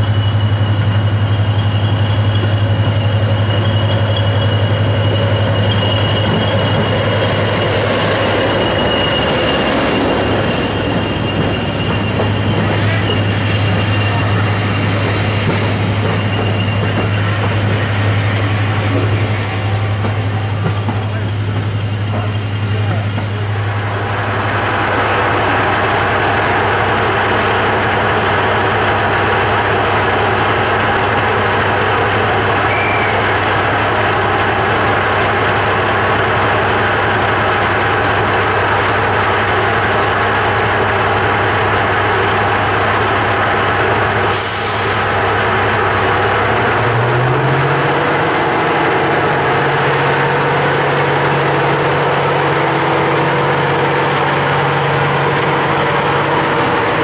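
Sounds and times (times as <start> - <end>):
diesel locomotive engines idling: 0.0 - 57.0.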